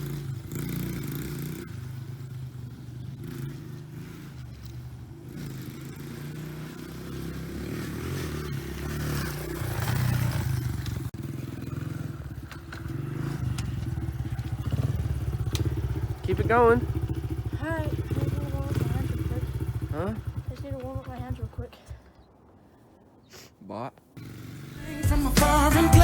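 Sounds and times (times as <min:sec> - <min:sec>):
dirt bike engine revving: 0:00.0 - 0:22.1, 0:24.2 - 0:26.0.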